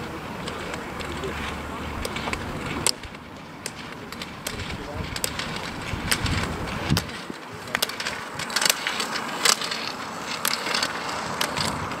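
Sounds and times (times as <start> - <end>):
roller ski wheels hissing on asphalt: 0.0 - 12.0
ski pole tips clicking on tarmac: 0.0 - 12.0.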